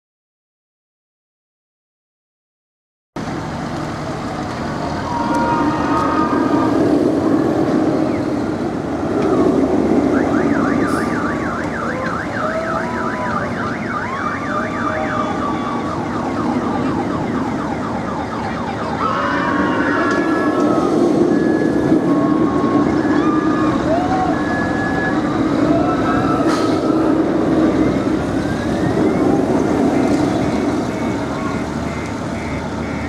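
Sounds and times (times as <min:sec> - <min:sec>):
roller coaster rumbling on track: 0:03.2 - 0:33.0
high wailing warbling tone: 0:04.8 - 0:08.5, 0:09.1 - 0:33.0.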